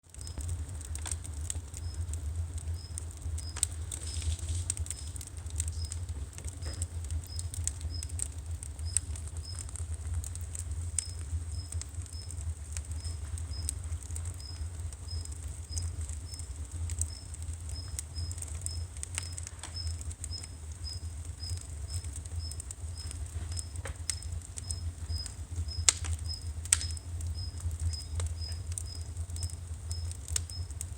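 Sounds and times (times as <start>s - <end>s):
firewood crackling and popping: 0.0s - 30.9s.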